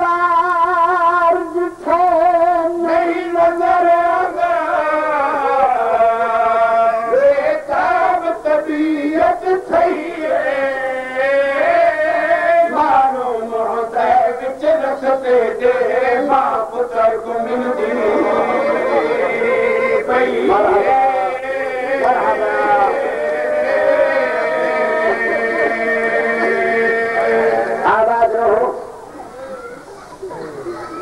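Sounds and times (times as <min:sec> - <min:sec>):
man singing with vibrato: 0:00.0 - 0:29.2.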